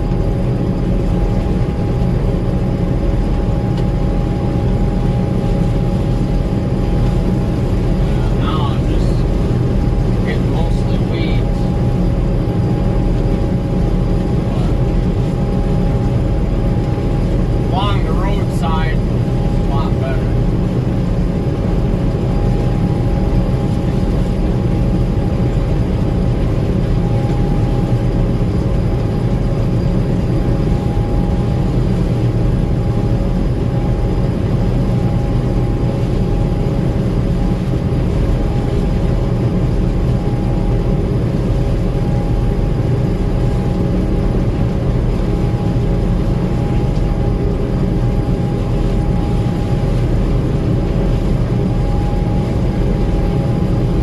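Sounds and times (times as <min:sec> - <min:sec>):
combine engine drone: 0:00.0 - 0:54.0.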